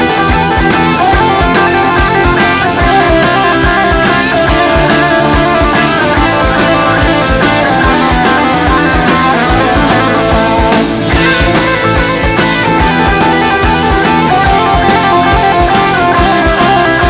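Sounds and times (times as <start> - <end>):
drums with kick drum beat: 0.0 - 17.0
electric guitar: 0.0 - 17.0
cymbal crash: 1.2 - 16.8.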